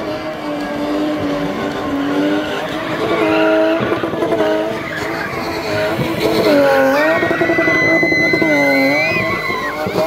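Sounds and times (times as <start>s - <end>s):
car engine at high revs: 0.0s - 10.0s
tyres screeching: 0.4s - 10.0s.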